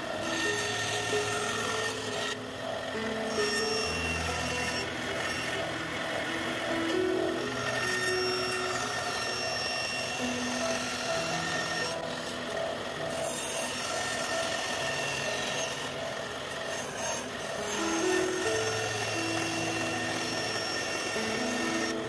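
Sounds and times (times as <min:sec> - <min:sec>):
bandsaw cutting plywood: 0:00.0 - 0:22.0.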